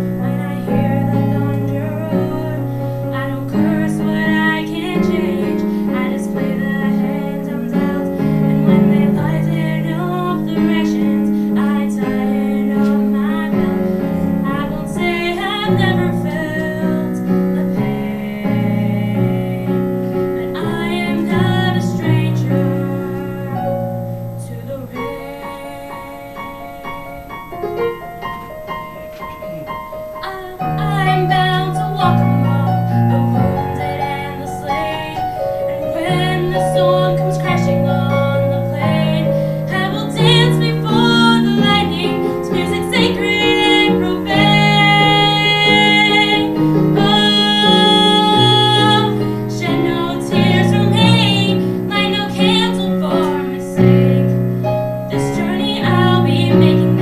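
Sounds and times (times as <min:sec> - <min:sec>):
woman singing a ballad: 0:00.0 - 0:28.3, 0:29.3 - 0:57.0
piano chords: 0:00.0 - 0:57.0.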